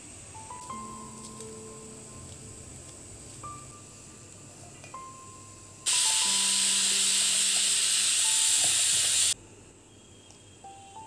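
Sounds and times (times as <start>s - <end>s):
loud steady hiss: 0.0s - 11.0s
soft music with held notes: 0.0s - 11.0s.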